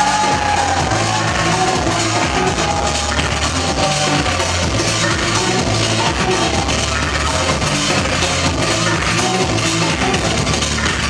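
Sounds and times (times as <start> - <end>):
loud house music: 0.0 - 11.0.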